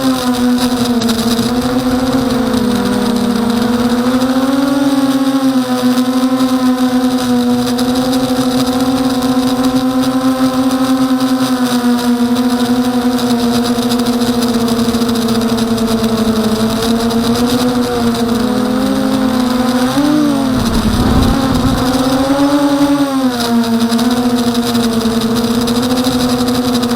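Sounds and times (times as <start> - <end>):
quadcopter motors whining: 0.1 - 26.0.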